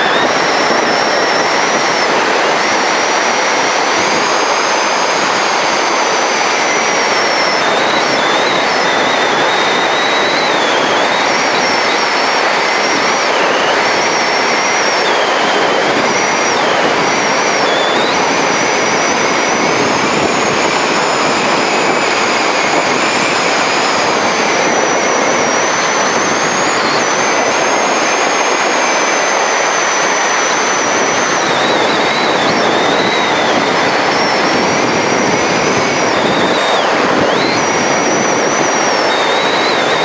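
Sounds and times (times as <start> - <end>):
thin high whistle: 0.0 - 40.0
wind roaring over microphone: 0.0 - 40.0.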